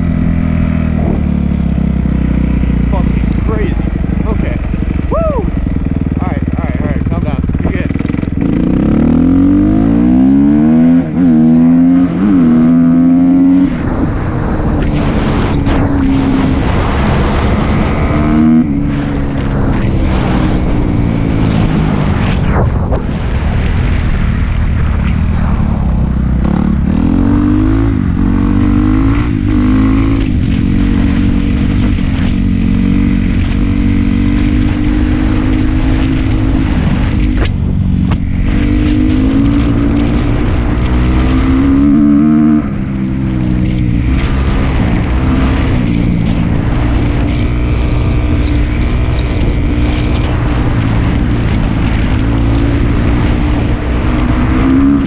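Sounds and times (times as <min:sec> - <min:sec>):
dirt bike engine accelerating: 0:00.0 - 0:55.0
wind noise: 0:00.0 - 0:55.0.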